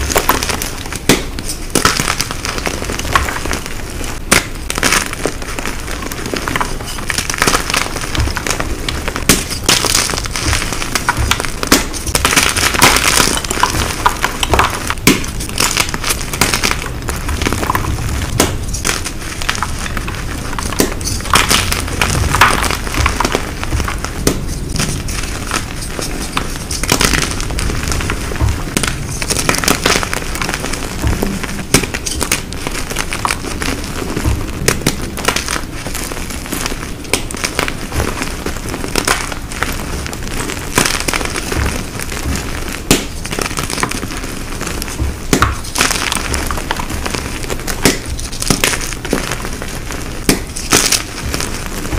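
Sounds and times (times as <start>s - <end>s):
chalk blocks crushed and crumbling: 0.0s - 51.9s.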